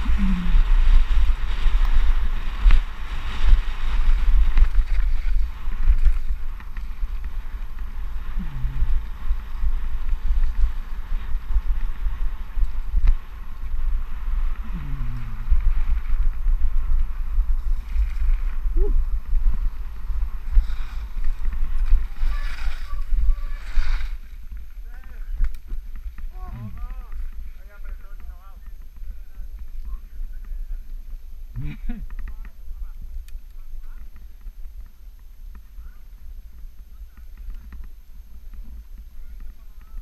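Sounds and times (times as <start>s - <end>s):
bike rattling over dirt trail: 0.0s - 40.0s
wind buffeting microphone: 0.0s - 40.0s.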